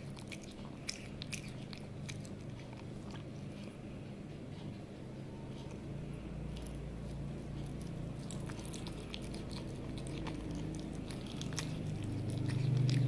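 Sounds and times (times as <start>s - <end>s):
cat chewing food: 0.0s - 13.0s
steady low hum: 0.0s - 13.0s.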